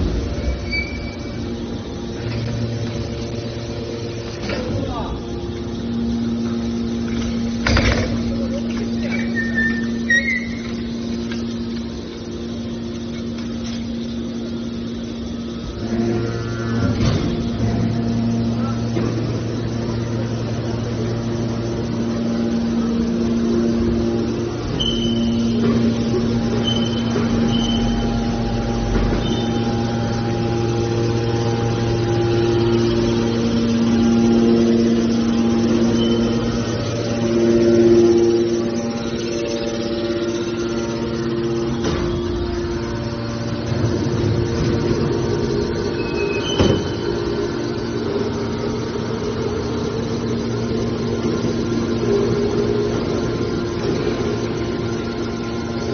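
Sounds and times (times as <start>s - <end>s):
deeper hum: 0.0s - 55.9s
hydraulic power unit humming: 0.0s - 55.9s.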